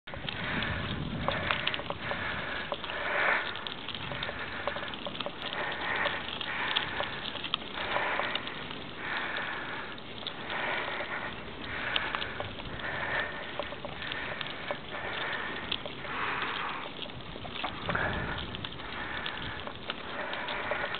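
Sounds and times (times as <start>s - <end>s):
person breathing hard: 0.1s - 20.9s
small clicks: 0.1s - 20.9s.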